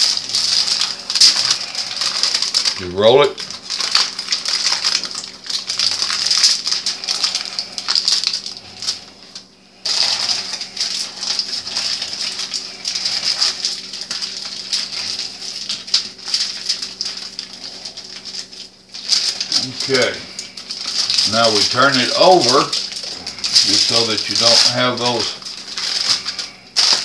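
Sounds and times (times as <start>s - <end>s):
aluminium foil crinkling: 0.0s - 27.0s.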